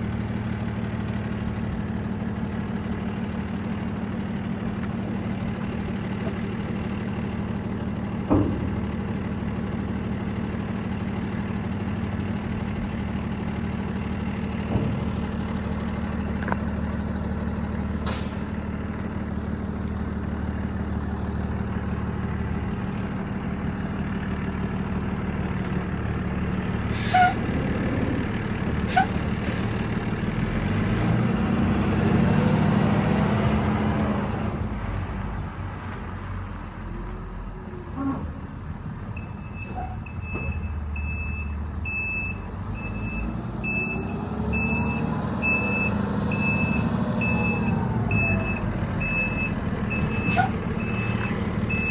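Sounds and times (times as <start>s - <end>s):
diesel truck engine revving: 0.0s - 51.9s.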